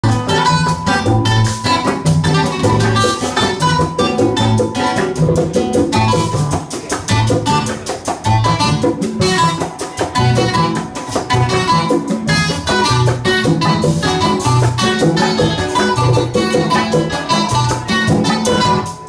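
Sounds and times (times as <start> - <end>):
acoustic guitar playing: 0.0 - 19.0
congas beat: 0.0 - 19.0
cuatro playing: 0.0 - 19.0.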